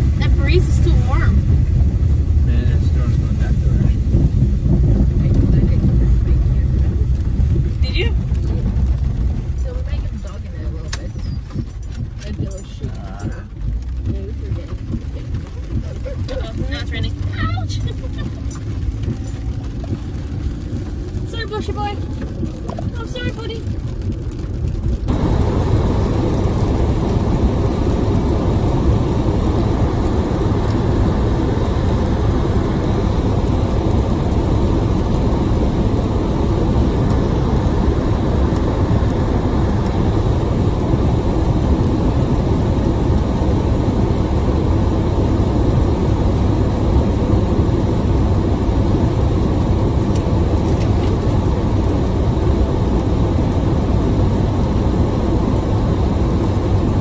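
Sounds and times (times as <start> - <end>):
wind and heavy rain rumble: 0.0 - 57.0.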